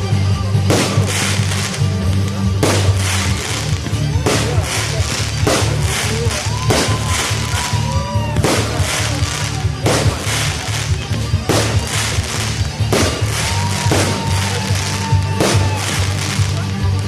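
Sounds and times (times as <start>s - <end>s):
fireworks bursting: 0.0s - 17.0s
loud music with pulsing bass: 0.0s - 17.0s.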